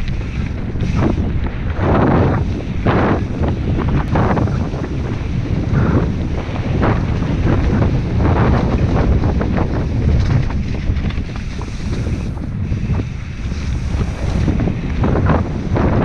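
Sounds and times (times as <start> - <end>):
bike rattling and knocking: 0.0 - 16.0
tyres rumbling over dirt: 0.0 - 16.0
wind buffeting microphone: 0.0 - 16.0.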